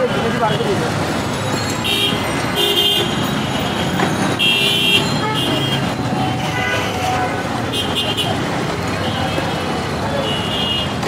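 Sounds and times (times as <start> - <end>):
traffic din: 0.0 - 11.0
vehicle horns tooting: 1.8 - 11.0.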